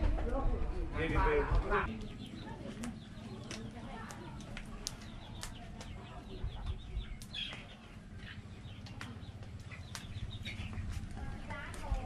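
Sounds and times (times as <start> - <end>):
birds chirping: 1.0 - 12.0.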